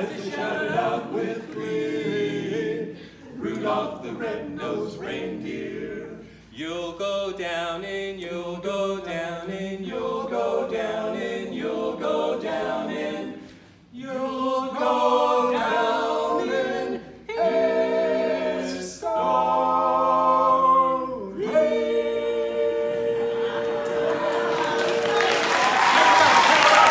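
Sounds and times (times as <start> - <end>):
male quartet singing a cappella: 0.0 - 25.4.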